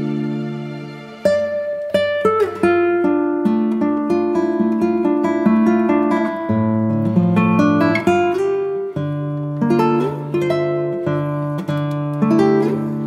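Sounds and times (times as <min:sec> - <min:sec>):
acoustic guitar picked tune: 0:00.0 - 0:13.0.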